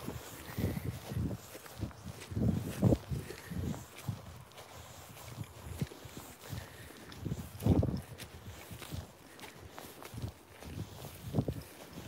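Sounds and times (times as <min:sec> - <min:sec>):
footsteps on grass: 0:00.0 - 0:12.0.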